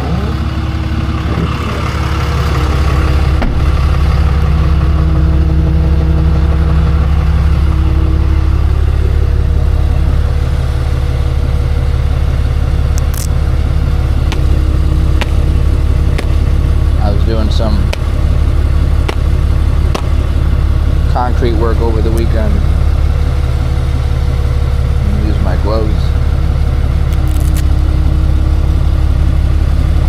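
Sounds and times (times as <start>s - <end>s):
road noise: 0.0s - 30.0s
truck engine drone: 0.0s - 30.0s.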